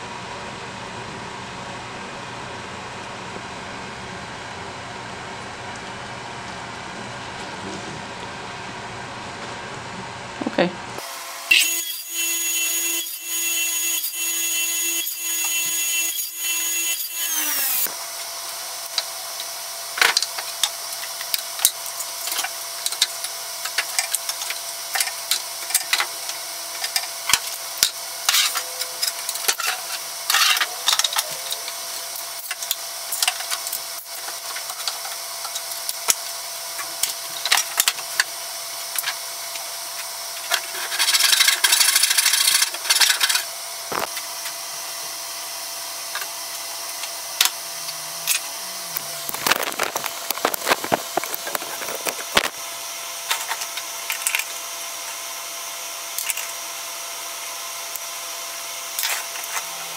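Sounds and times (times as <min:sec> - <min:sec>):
saw motor whining: 0:11.0 - 0:59.9.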